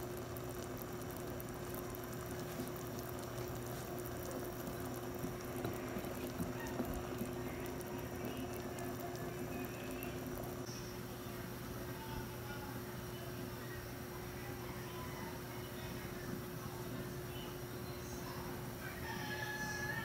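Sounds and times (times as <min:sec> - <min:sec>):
broth boiling in a pot: 0:00.0 - 0:20.0.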